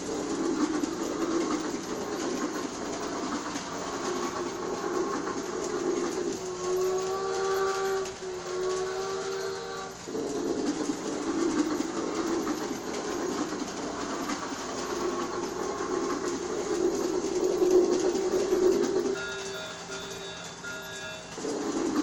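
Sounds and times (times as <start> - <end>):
toy train rumbling: 0.0 - 22.0
wheels clicking: 0.0 - 22.0.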